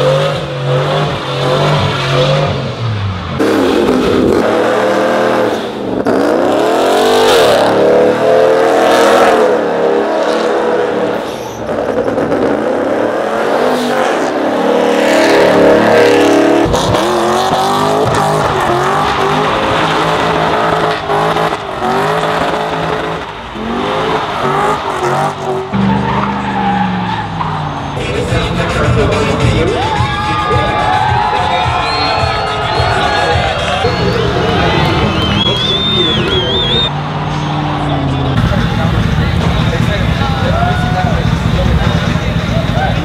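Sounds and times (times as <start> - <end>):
tires squealing: 0.0 - 43.0
truck engine revving: 0.0 - 43.0.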